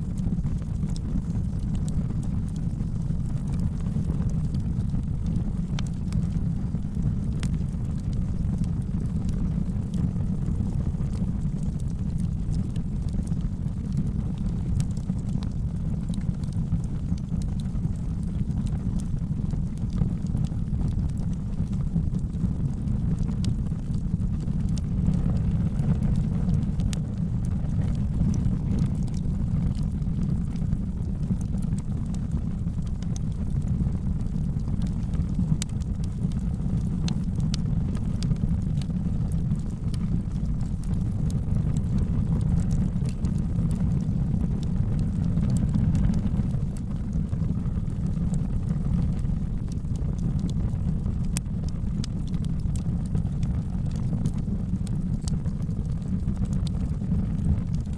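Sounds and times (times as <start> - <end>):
fire crackles and pops: 0.0 - 57.9
fire low rumble: 0.0 - 57.9.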